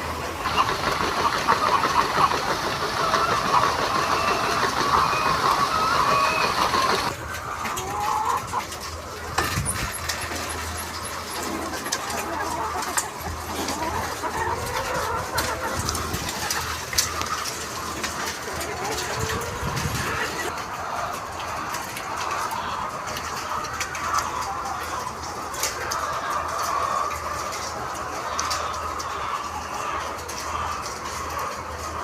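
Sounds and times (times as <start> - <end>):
chickens clucking: 0.0 - 32.0.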